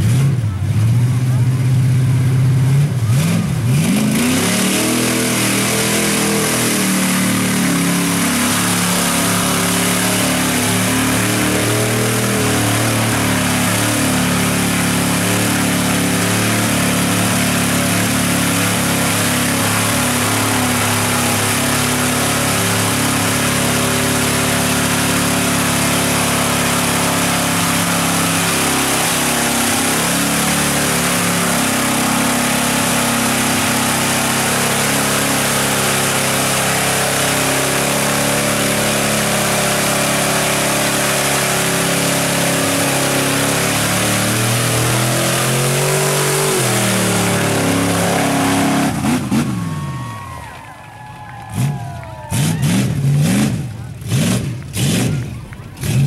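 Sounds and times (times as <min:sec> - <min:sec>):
truck engine revving: 0:00.0 - 0:56.0
tyres churning through mud: 0:00.0 - 0:56.0
mud and water spraying: 0:03.1 - 0:50.4.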